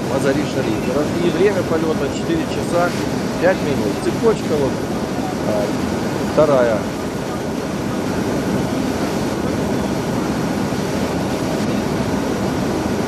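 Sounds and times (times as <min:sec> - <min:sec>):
jet engines droning: 0:00.0 - 0:13.0
rushing air: 0:00.0 - 0:13.0.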